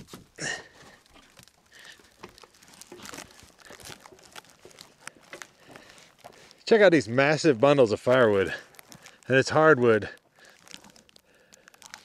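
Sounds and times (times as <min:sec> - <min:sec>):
footsteps on gravelly dirt: 0:00.0 - 0:11.0
firewood crinkling and crunching: 0:00.0 - 0:12.0.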